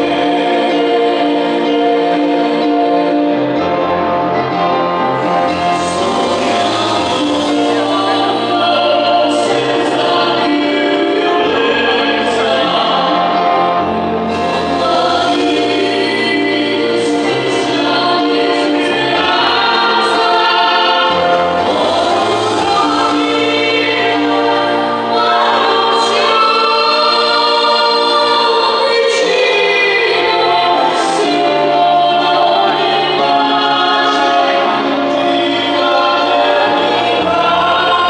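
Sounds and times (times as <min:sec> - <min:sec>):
voices singing together: 0:00.0 - 0:38.0.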